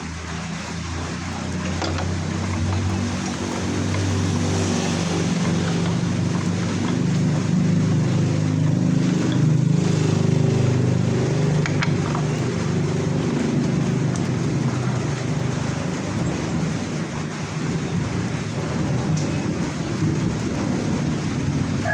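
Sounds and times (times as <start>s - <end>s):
milling machine running: 0.0s - 21.8s.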